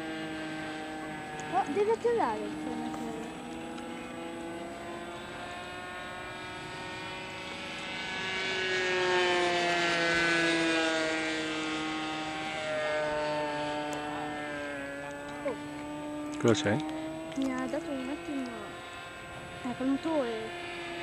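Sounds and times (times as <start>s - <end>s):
model jet engine passing overhead: 0.0s - 21.0s.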